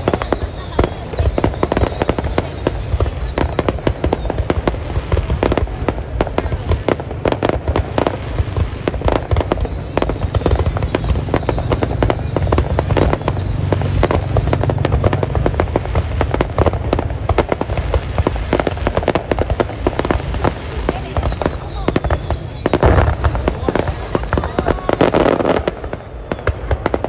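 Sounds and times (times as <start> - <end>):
deep rumble: 0.0 - 27.0
fireworks bangs and crackles: 0.0 - 27.0.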